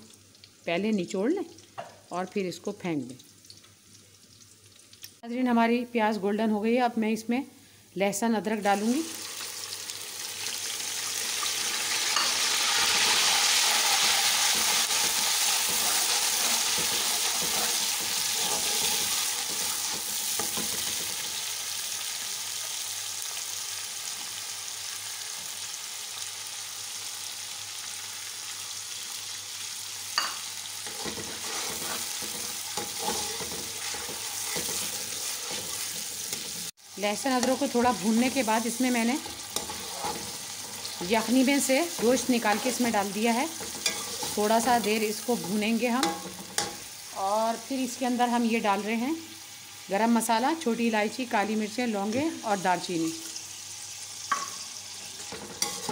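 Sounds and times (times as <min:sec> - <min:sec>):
paste sizzling in hot oil: 0:08.7 - 0:55.9.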